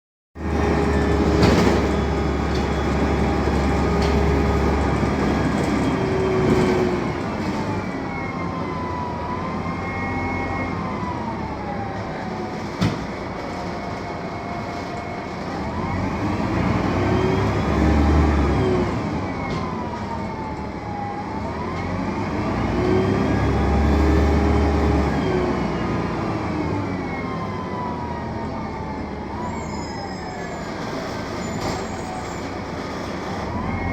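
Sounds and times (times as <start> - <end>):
bus engine and gearbox whine: 0.4 - 33.9.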